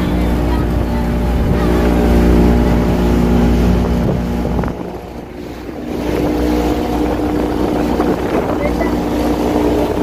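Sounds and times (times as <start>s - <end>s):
boat wake churning: 0.0s - 10.0s
outboard motor running: 0.0s - 10.0s.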